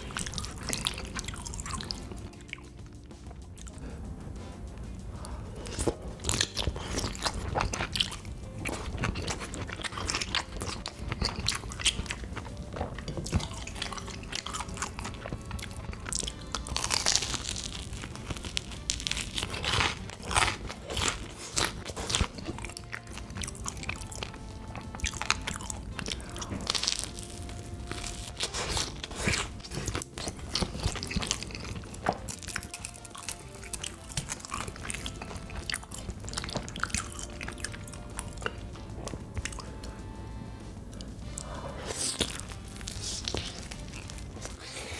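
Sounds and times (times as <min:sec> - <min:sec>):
chewing: 0:00.0 - 0:04.1, 0:04.8 - 0:44.9
soft background music: 0:00.0 - 0:44.9
crunchy bites: 0:05.6 - 0:39.7, 0:41.0 - 0:44.9.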